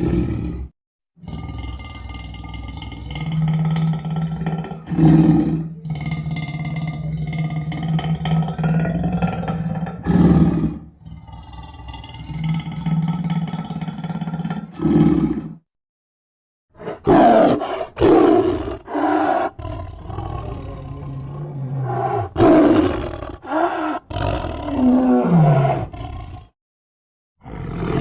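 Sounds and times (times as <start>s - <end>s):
animal roars and growls: 0.0s - 15.6s, 16.8s - 26.6s, 27.4s - 28.0s.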